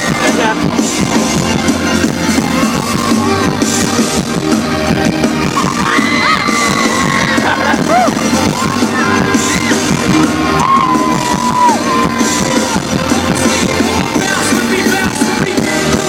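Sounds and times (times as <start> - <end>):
band playing loud live music: 0.0 - 16.0
crowd whooping and shouting: 0.0 - 16.0.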